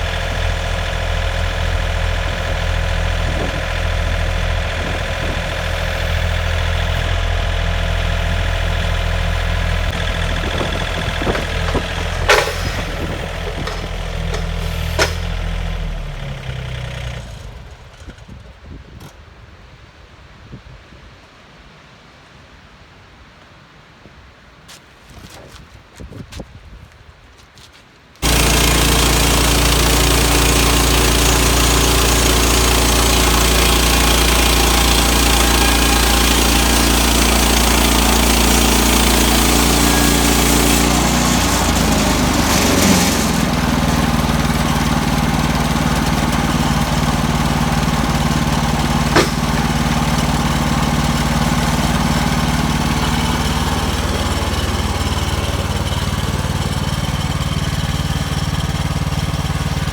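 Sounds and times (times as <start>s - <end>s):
sawmill gas engine running: 0.0s - 18.2s, 28.2s - 59.9s.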